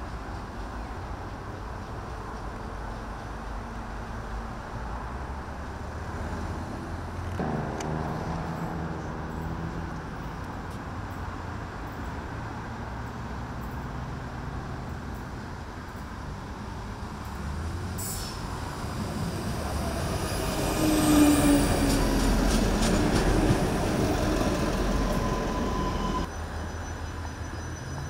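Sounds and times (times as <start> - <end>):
diesel railcar engine rumble: 0.0 - 28.0.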